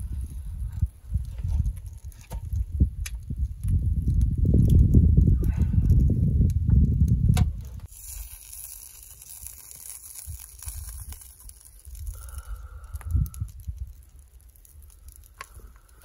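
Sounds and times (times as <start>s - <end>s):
wind buffeting microphone: 0.0s - 7.9s, 10.0s - 16.0s
light crackles: 0.0s - 16.0s.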